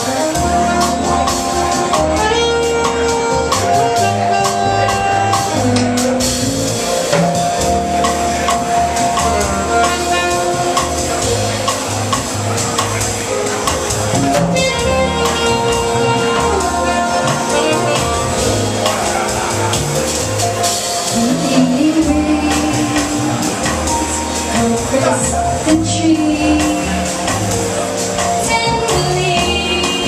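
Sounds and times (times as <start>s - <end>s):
bass: 0.0s - 30.0s
drums with light cymbals: 0.0s - 30.0s
piano: 0.0s - 30.0s
saxophone melody: 0.0s - 30.0s.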